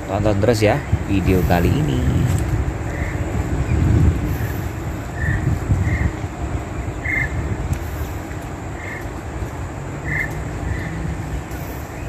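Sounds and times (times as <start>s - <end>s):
starlings calling: 0.5s - 12.0s.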